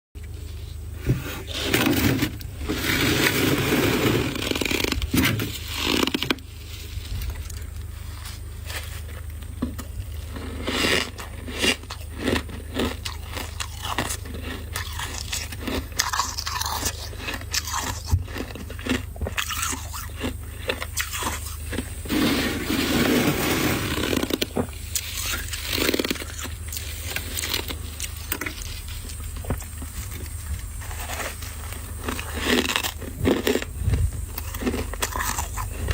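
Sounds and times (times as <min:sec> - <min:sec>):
frost crunching and scraping: 0:00.2 - 0:35.9.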